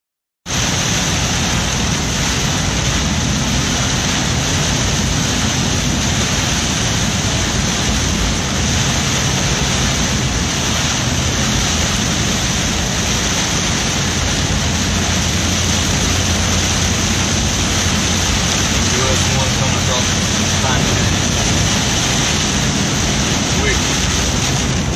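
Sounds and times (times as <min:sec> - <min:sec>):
car rumbling on road: 0:00.4 - 0:24.9
heavy rain and wind on car: 0:00.4 - 0:24.9.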